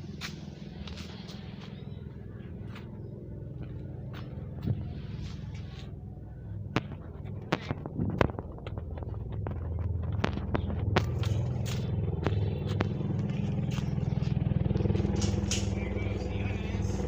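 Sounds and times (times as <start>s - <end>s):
helicopter droning: 0.0s - 17.0s.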